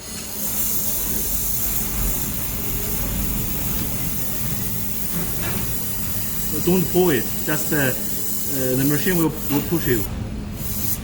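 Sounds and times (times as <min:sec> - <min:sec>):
gas hissing from welding torch: 0:00.0 - 0:11.0.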